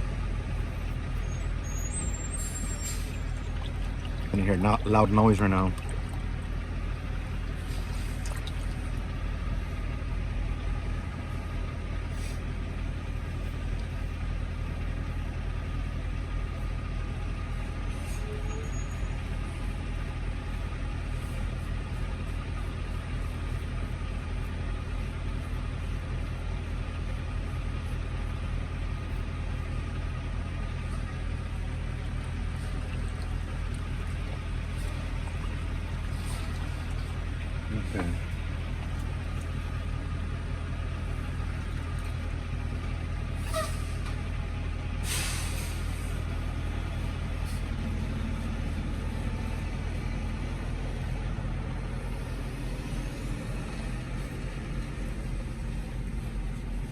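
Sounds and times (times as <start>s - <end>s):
diesel truck engine idling: 0.0s - 56.9s.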